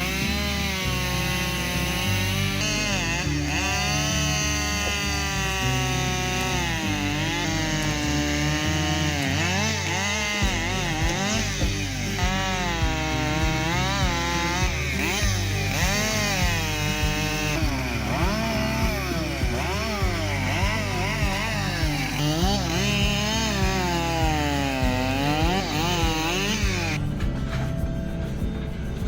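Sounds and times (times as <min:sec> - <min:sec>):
chainsaw cutting wood: 0:00.0 - 0:28.1.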